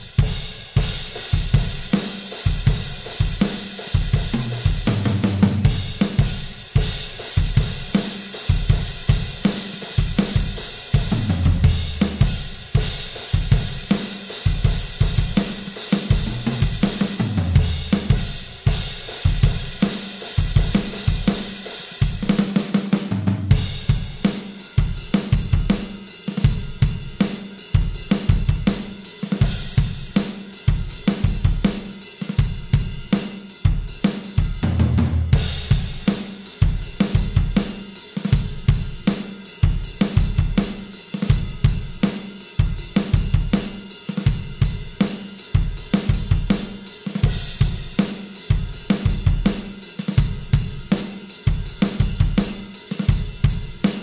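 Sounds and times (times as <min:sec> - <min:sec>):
electronic drum kit rock groove: 0:00.0 - 0:54.0.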